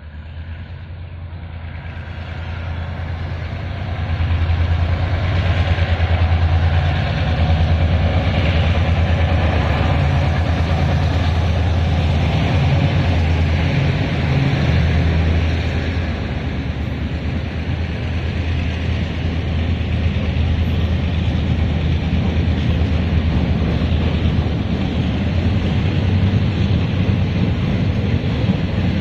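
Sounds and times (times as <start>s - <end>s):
diesel locomotive engine drone: 0.0s - 29.0s.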